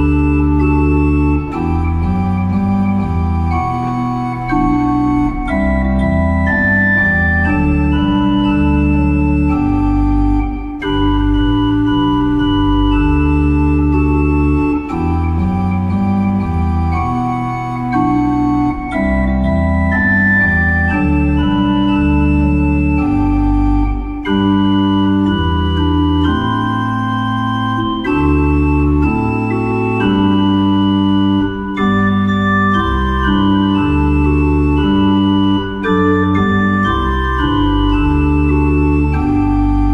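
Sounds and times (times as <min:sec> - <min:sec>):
organ-toned keyboard hymn chords: 0:00.0 - 0:39.9.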